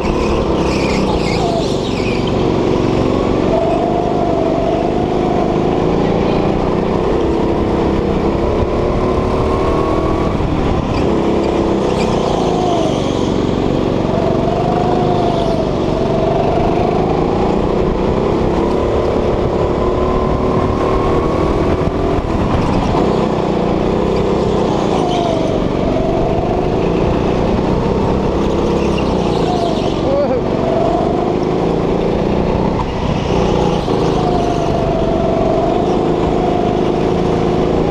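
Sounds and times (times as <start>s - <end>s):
go-kart engine running hard: 0.0s - 37.9s.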